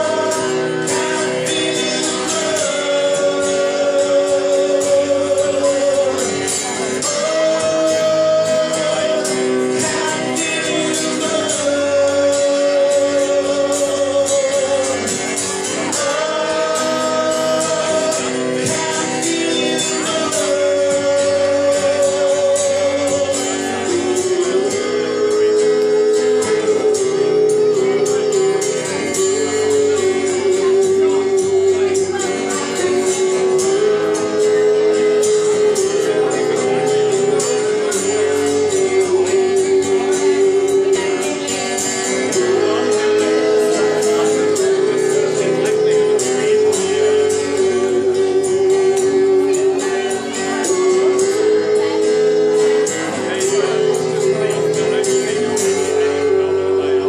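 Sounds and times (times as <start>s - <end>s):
man singing: 0.0s - 57.0s
strummed acoustic guitar: 0.0s - 57.0s.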